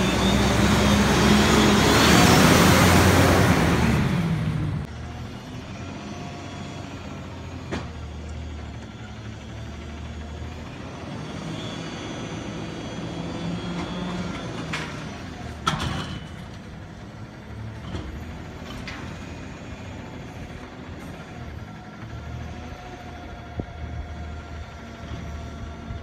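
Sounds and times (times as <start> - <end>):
garbage truck engine running: 0.0 - 26.0.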